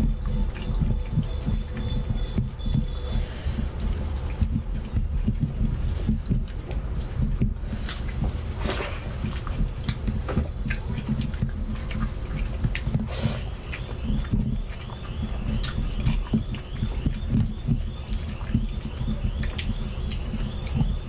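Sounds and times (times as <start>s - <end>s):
fingers mashing wet food: 0.0s - 21.0s
mouths chewing: 0.0s - 21.0s.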